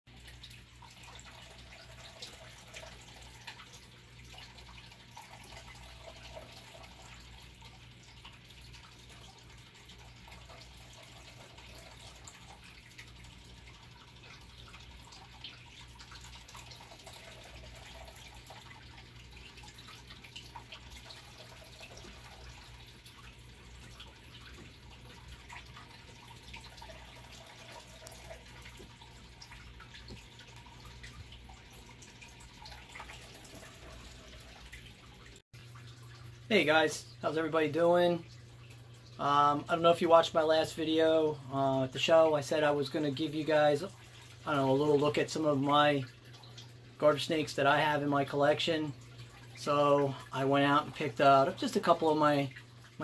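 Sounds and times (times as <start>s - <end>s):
faint trickling water: 0.1s - 53.0s
low electrical hum: 0.1s - 53.0s
small water drips: 0.1s - 53.0s.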